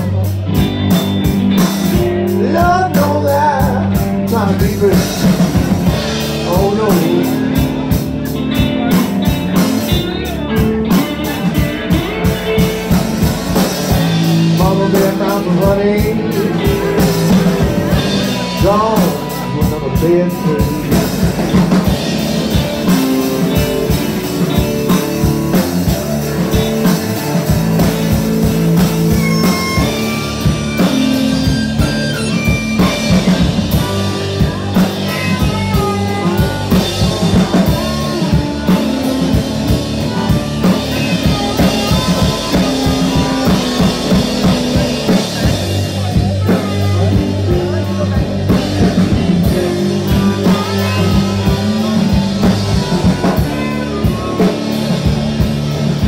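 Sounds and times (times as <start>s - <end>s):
drum kit beat: 0.0s - 56.0s
electric guitars: 0.0s - 56.0s.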